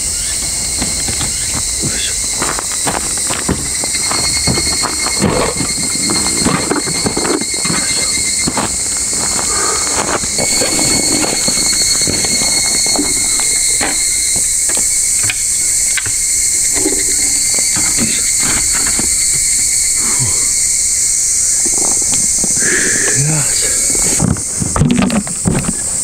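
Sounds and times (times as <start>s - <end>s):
cicadas and insects singing: 0.0s - 26.0s.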